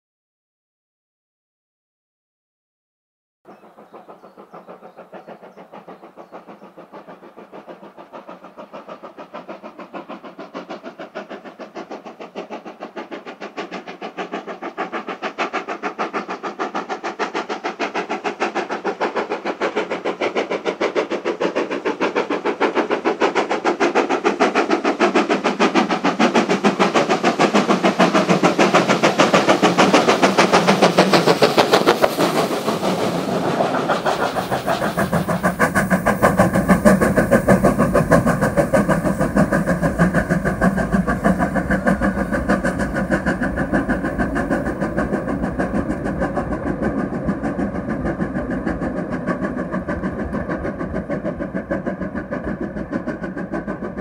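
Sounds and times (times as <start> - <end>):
steam locomotive exhaust beats: 3.5 - 54.0.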